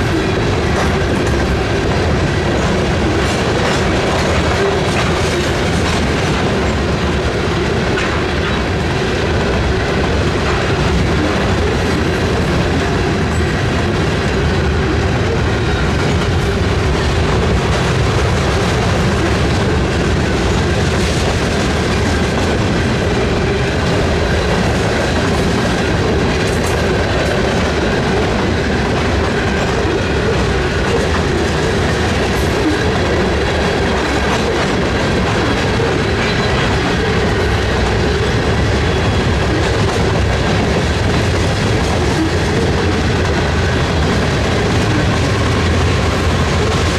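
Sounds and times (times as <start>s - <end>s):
train wheels rumbling and clattering: 0.0s - 46.9s.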